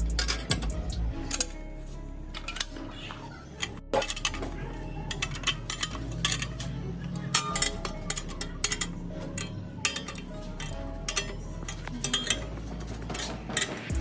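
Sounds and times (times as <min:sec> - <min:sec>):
metal parts clanking: 0:00.0 - 0:14.0.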